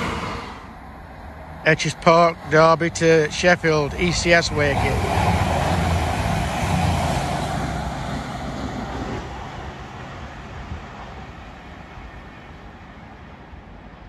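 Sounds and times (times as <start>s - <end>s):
diesel train passing: 0.0s - 14.0s.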